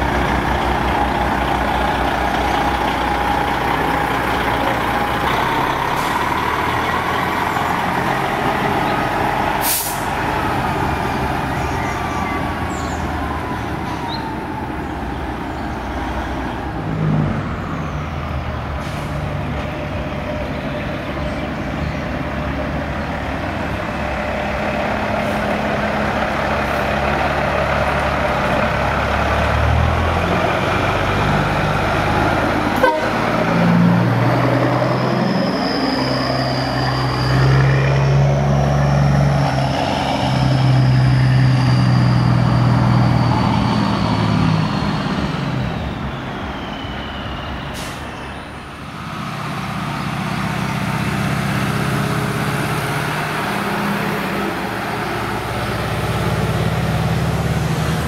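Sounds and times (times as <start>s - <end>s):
diesel trucks passing: 0.0s - 58.0s.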